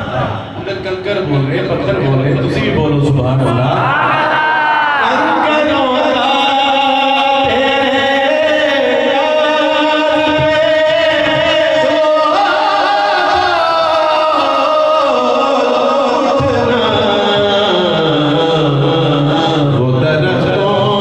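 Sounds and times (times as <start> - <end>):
man chanting into a microphone: 0.0 - 3.8, 4.9 - 21.0.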